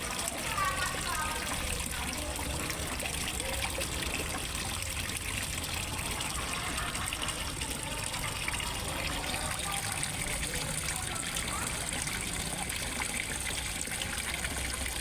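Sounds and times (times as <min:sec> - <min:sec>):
waterfall splashing into pond: 0:00.0 - 0:15.0.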